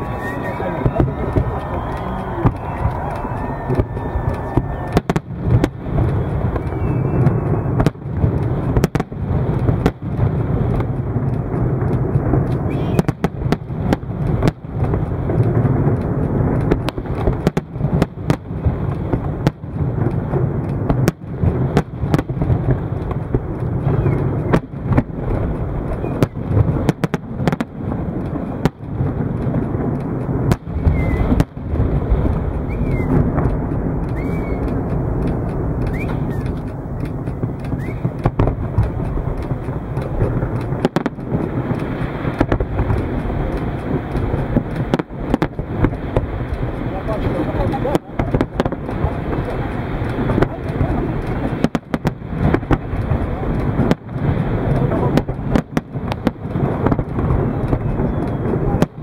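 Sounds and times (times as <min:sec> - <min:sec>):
firework shells bursting: 0:00.0 - 0:59.0
low rumble: 0:00.0 - 0:59.0.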